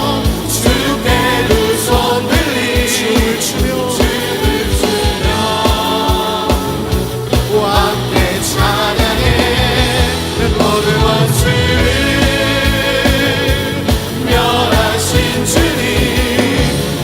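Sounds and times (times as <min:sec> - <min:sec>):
person singing: 0:00.0 - 0:17.0
steady drum beat: 0:00.0 - 0:17.0
worship band music: 0:00.0 - 0:17.0.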